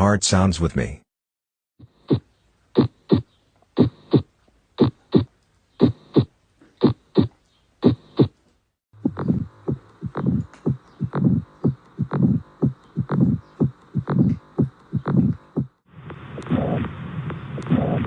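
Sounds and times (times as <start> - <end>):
heartbeat through stethoscope: 1.8 - 8.4, 9.0 - 18.0.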